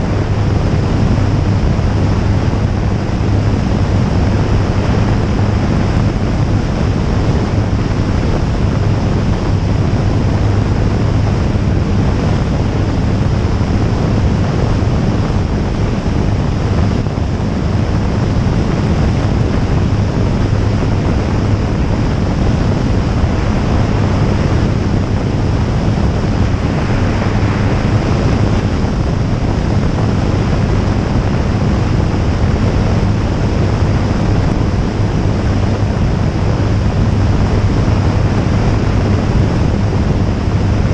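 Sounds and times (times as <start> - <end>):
light aircraft engine drone: 0.0 - 40.9
wind rush on microphone: 0.0 - 40.9.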